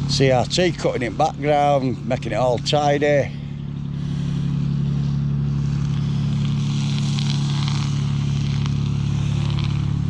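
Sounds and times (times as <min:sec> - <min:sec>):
boat diesel engine chugging: 0:00.0 - 0:10.0.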